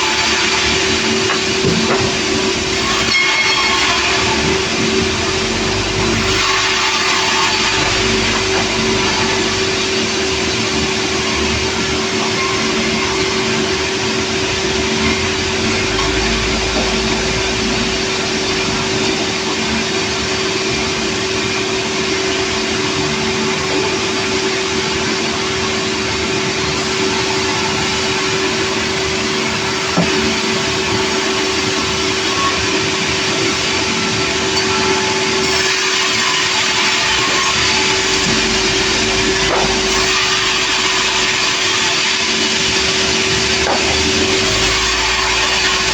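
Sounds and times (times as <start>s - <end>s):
sawmill whirring: 0.0s - 45.9s.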